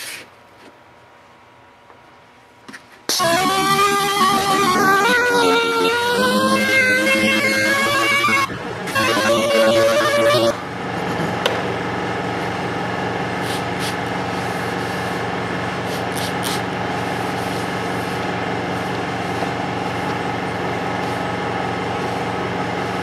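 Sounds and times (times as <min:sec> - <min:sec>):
palm sander running: 0:03.1 - 0:23.0.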